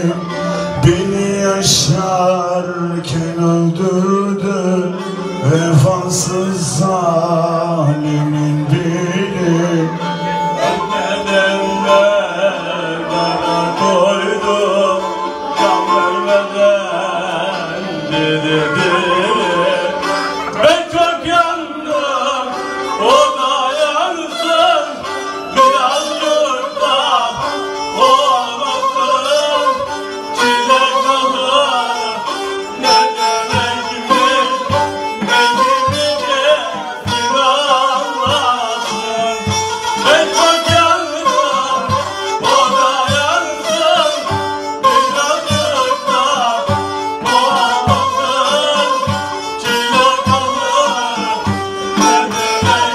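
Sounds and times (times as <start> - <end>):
bowed fiddle folk melody: 0.0 - 52.9
man singing: 0.0 - 52.9.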